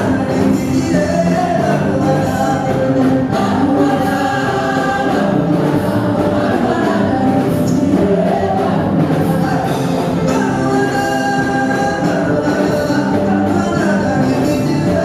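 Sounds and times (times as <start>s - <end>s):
group singing in harmony: 0.0s - 15.0s
live band playing: 0.0s - 15.0s.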